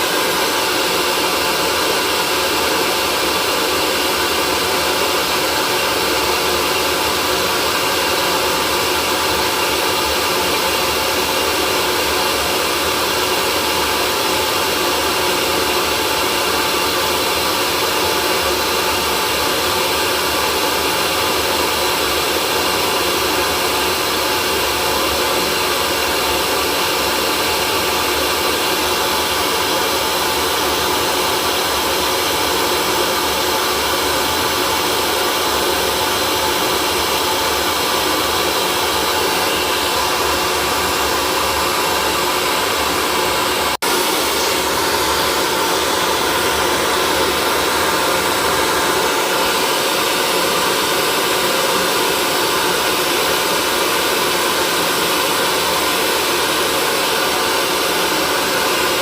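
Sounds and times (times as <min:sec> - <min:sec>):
hair dryer blowing air: 0:00.0 - 0:59.0.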